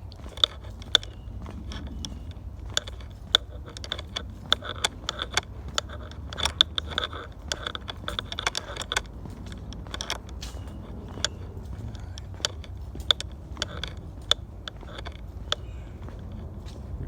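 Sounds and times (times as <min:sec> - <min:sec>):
footsteps on dry leaves: 0:00.0 - 0:17.0.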